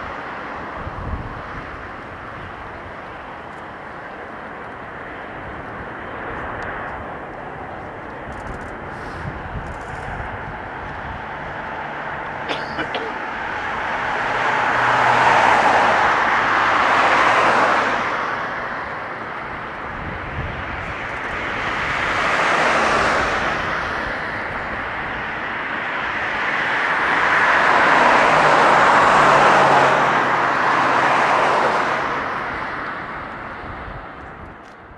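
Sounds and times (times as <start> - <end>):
jet airliner roar on takeoff: 0.0 - 34.9.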